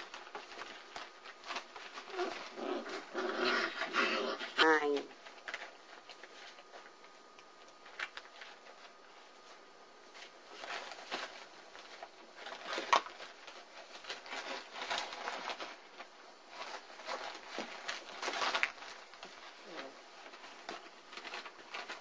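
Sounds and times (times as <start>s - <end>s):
puppies scuffling and scratching: 0.0s - 22.0s.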